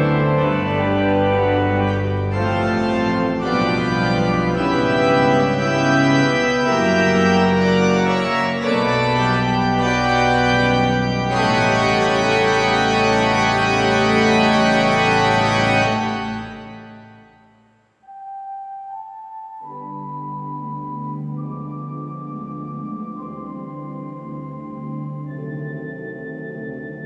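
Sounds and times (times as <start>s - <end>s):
organ playing sustained chords: 0.0s - 17.5s, 18.1s - 27.0s.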